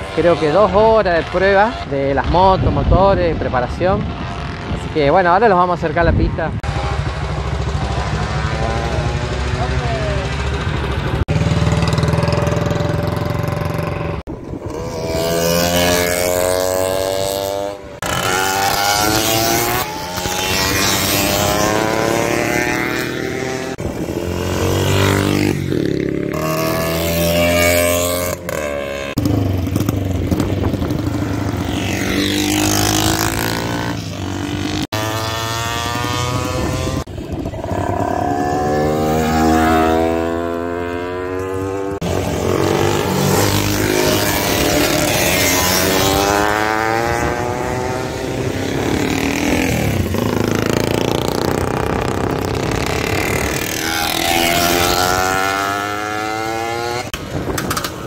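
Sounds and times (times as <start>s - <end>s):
racing motorcycles revving past: 6.6s - 58.0s.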